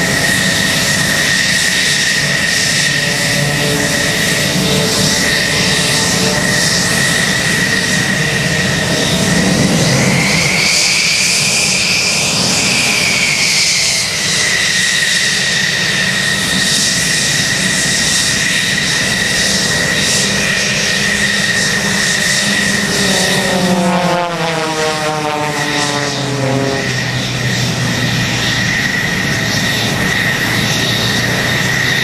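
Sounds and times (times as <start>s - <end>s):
aircraft engine whine: 0.0s - 32.0s.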